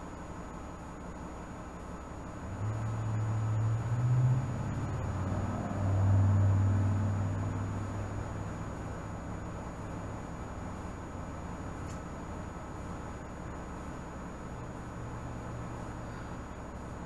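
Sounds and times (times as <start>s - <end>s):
bus diesel engine under load: 0.0s - 17.0s.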